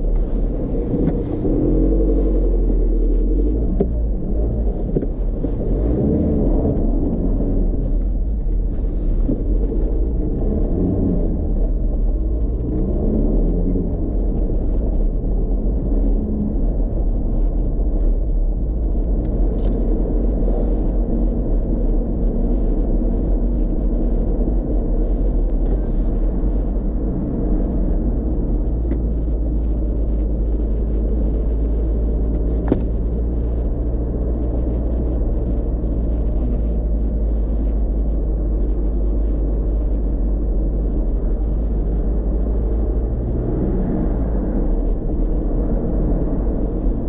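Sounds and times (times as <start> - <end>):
diesel engine running: 0.0 - 47.0
low road rumble: 0.0 - 47.0.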